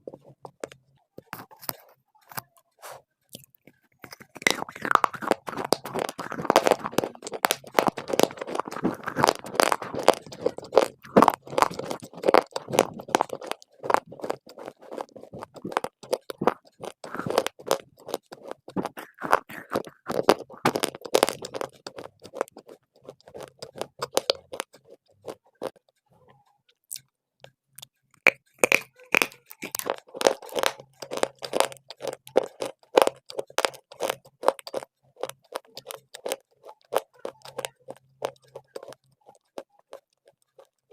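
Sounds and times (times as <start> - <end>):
crunching and chewing dry clay: 0.0 - 26.0, 26.7 - 40.9.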